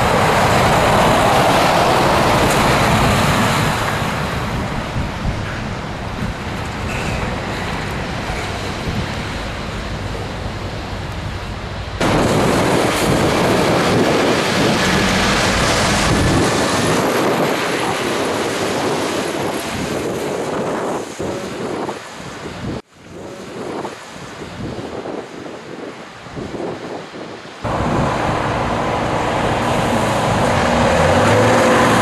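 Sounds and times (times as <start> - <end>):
road traffic rumble: 0.0 - 25.2, 25.9 - 32.0
wind on microphone: 0.0 - 32.0.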